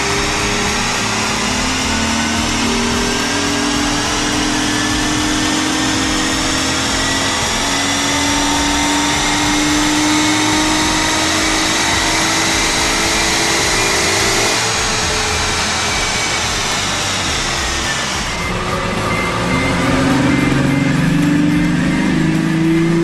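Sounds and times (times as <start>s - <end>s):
car engine revving under load: 0.0s - 23.0s.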